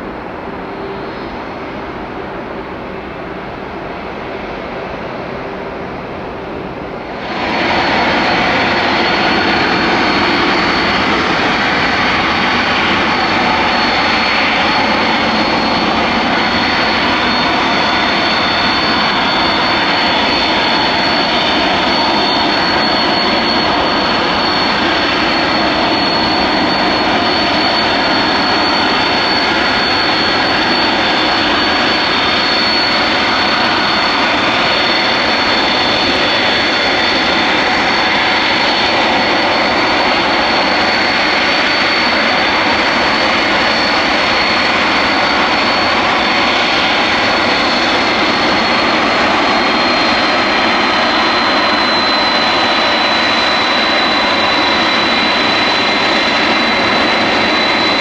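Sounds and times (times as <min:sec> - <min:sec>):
jet engines whining and roaring: 0:00.0 - 0:58.0.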